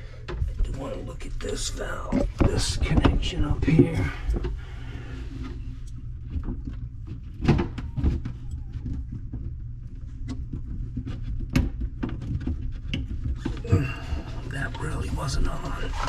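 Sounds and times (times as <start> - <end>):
clicks and knocks of plumbing work: 0.0 - 14.7
steady low hum: 0.0 - 16.0.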